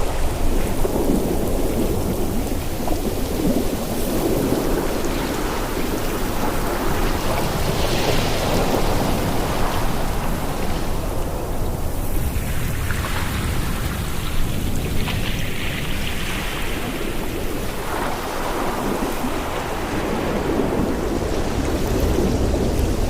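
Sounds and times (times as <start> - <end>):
waves breaking on shore: 0.0 - 23.0.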